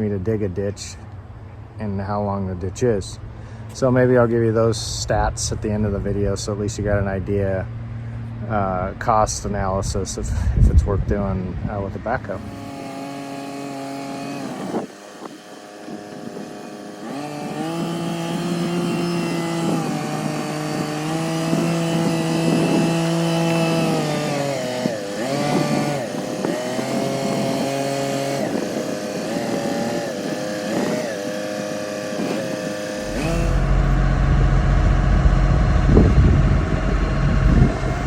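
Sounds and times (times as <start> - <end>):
tractor diesel engine running: 1.8 - 38.0.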